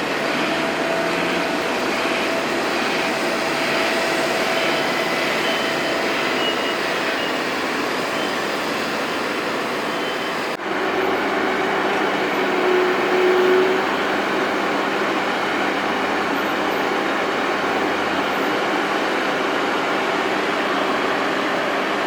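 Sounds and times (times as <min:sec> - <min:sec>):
road traffic rushing: 0:00.0 - 0:22.0.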